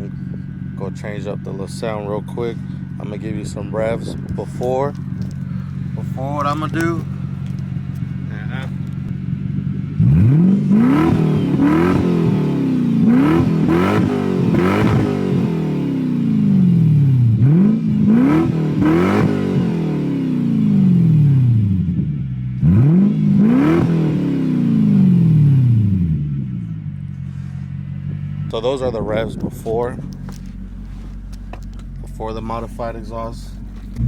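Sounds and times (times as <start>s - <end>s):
car engine throttle blips: 0.0s - 34.0s.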